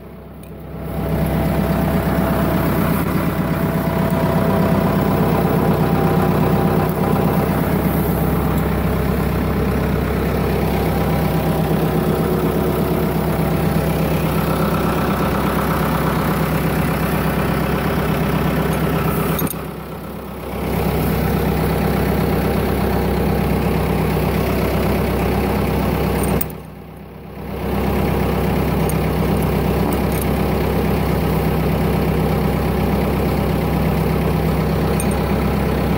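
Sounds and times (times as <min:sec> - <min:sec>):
tractor engine idling: 0:00.0 - 0:35.9.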